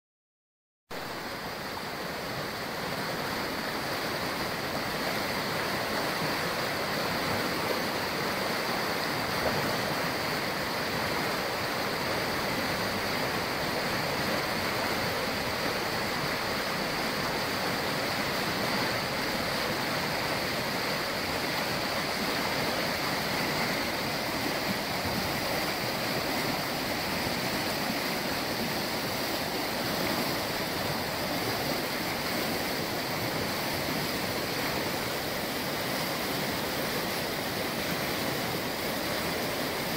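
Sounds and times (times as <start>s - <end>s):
water rushing over rocks: 0.9s - 39.9s.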